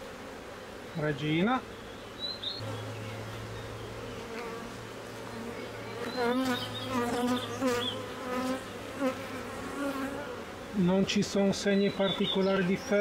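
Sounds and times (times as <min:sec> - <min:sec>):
single bee buzzing close by: 0:00.0 - 0:11.0
bees buzzing around hive: 0:00.0 - 0:13.0.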